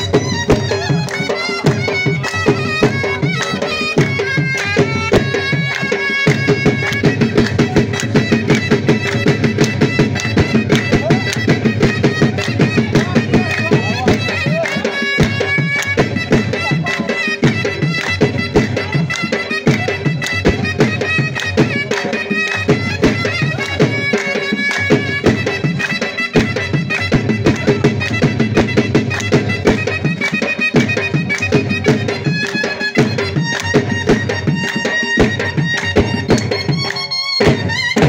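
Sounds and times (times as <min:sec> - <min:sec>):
drum beat: 0:00.0 - 0:38.0.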